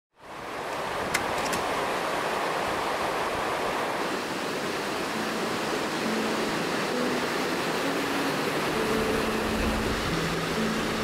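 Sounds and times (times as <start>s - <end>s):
waterfall rushing and splashing: 0.2s - 11.0s.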